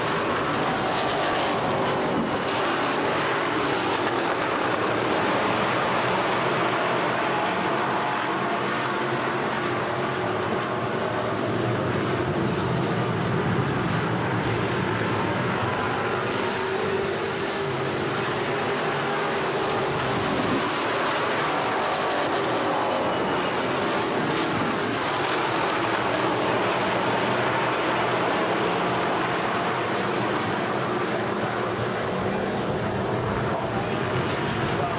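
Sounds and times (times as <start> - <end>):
race car engines passing: 0.0 - 34.9.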